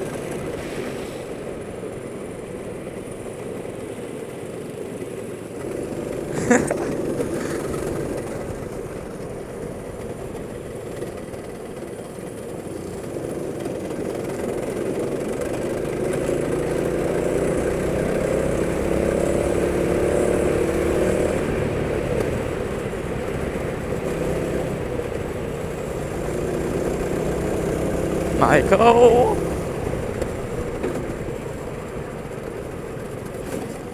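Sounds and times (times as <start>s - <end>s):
go-kart engine running: 0.0s - 33.9s.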